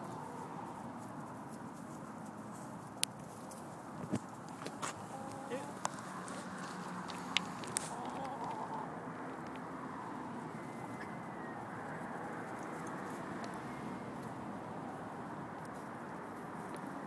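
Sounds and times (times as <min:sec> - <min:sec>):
chickens clucking and murmuring: 0:00.0 - 0:14.3.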